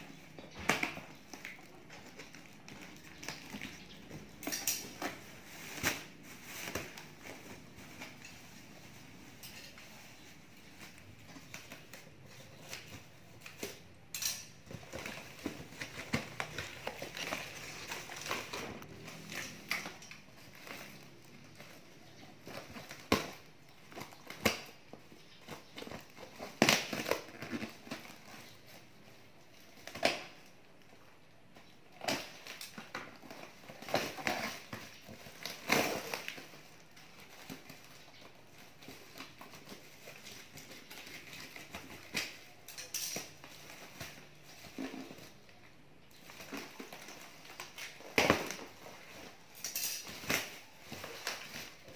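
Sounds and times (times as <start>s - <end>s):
plastic packing film crinkling: 0.0s - 51.9s.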